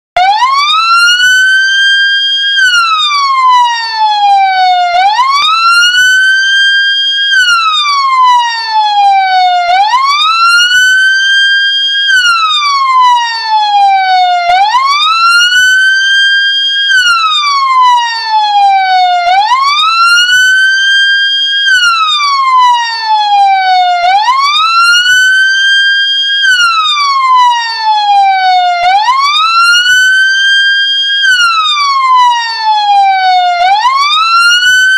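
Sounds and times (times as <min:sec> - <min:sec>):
ambulance siren wailing: 0:00.2 - 0:34.9.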